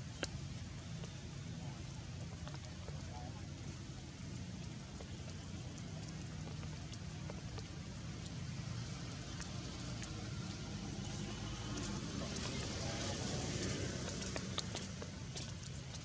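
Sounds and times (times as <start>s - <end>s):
drops ticking close by: 1.8s - 16.0s
steady rain: 2.9s - 16.0s.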